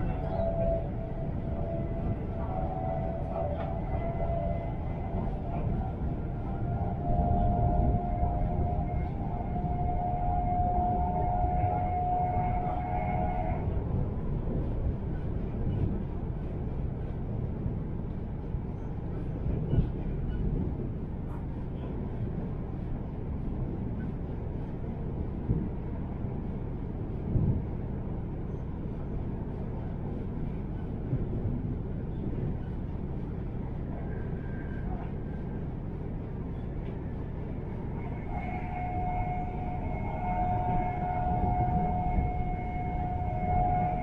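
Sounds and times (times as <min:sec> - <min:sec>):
train wheels rumbling on track: 0:00.0 - 0:44.0.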